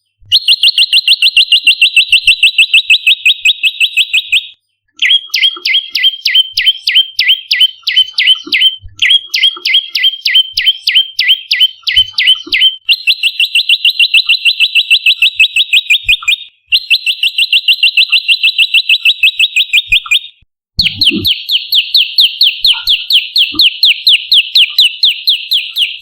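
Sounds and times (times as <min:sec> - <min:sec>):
bird chirping and trilling: 0:00.3 - 0:26.0.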